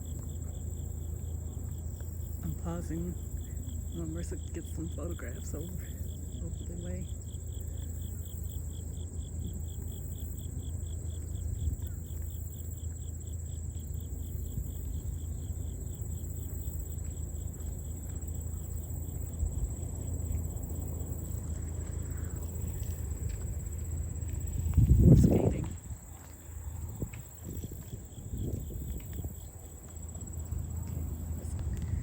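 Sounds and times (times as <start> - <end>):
insect chirping in steady pulse: 0.0 - 32.0
low steady rumble: 0.0 - 32.0.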